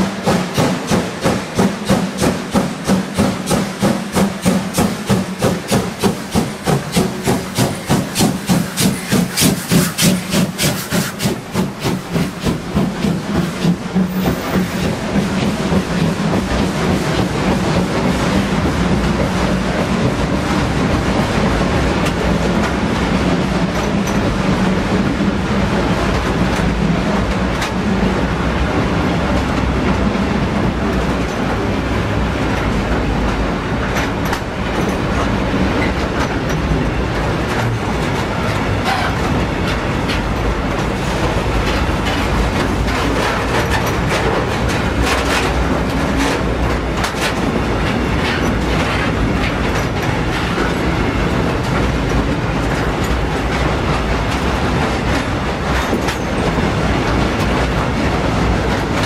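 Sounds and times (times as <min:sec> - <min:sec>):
train wheels clattering on track: 0:00.0 - 0:59.0.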